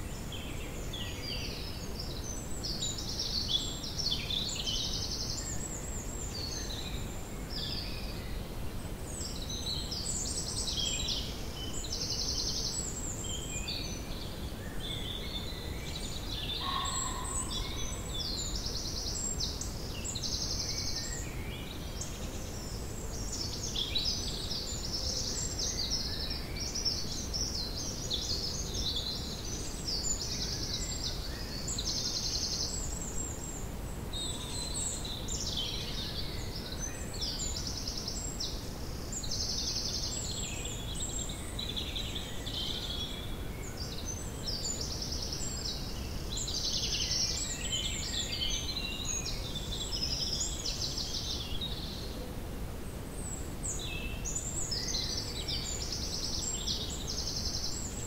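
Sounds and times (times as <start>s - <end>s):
small birds singing: 0.0s - 58.0s.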